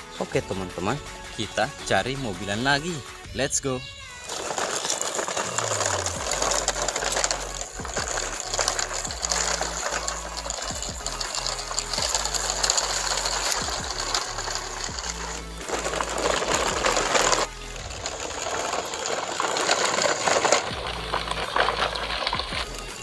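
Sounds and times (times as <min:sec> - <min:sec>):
toy trucks rattling on paving: 0:00.0 - 0:23.0.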